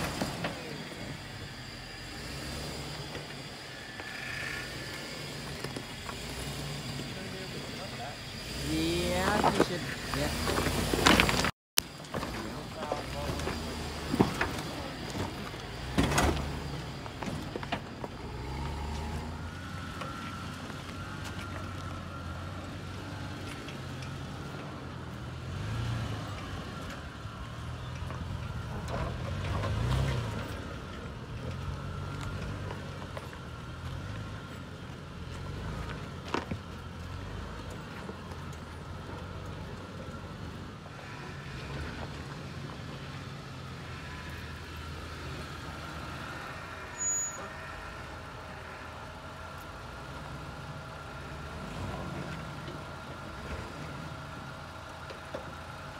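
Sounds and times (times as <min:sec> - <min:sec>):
suv engines revving: 0:00.0 - 0:55.9.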